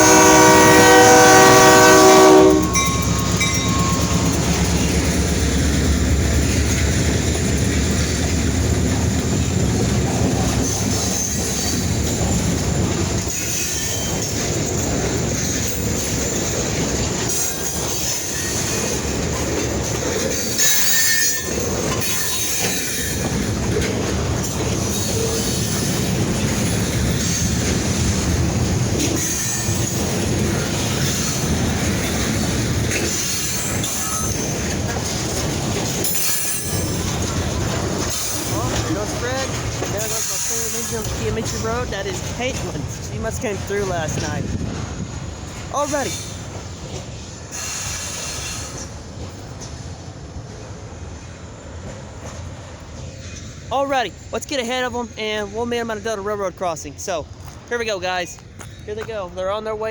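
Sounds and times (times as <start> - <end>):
wheels clacking over rail joints: 0.0 - 56.6
wheels squealing against rails: 0.0 - 56.6
heavy train rumble: 0.0 - 59.9.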